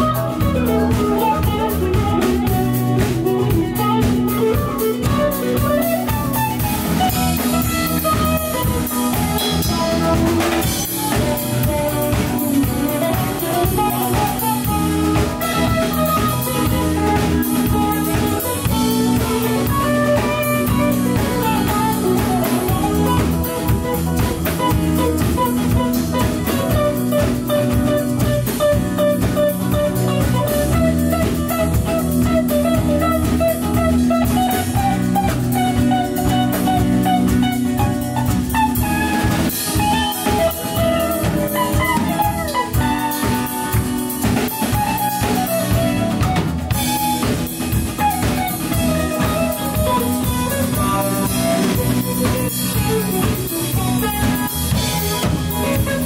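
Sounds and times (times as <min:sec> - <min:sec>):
bass: 0:00.0 - 0:56.0
drum kit with cymbals: 0:00.0 - 0:56.0
guitars: 0:00.0 - 0:56.0
keyboard: 0:00.0 - 0:56.0.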